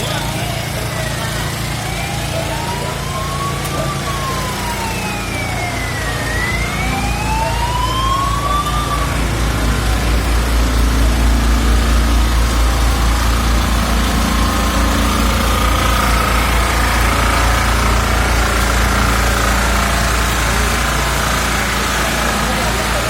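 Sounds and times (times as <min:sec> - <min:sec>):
emergency siren wailing: 0:00.0 - 0:23.0
heavy vehicle engine running: 0:00.0 - 0:23.0.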